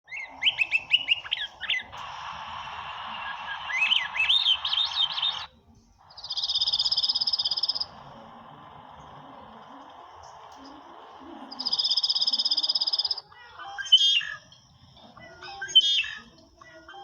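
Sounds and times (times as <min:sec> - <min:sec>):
bird trilling: 0:00.0 - 0:14.6, 0:15.2 - 0:17.0
songbirds singing: 0:00.0 - 0:17.0
bird chirps and whistles: 0:00.1 - 0:05.5, 0:06.1 - 0:14.4, 0:15.5 - 0:16.3
steady background buzz: 0:00.1 - 0:17.0.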